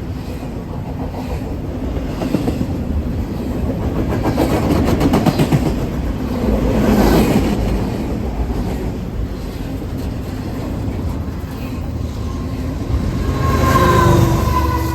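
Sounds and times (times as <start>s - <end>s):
train rail rumble: 0.0s - 14.9s.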